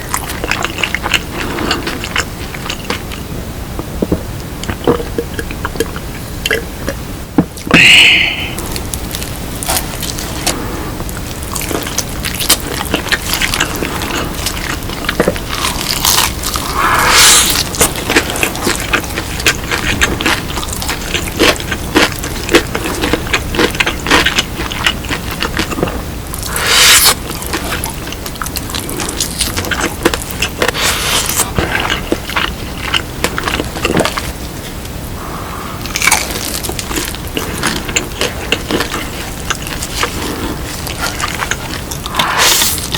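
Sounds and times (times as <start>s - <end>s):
crunching and chewing fried chicken: 0.0s - 3.3s, 8.6s - 42.9s.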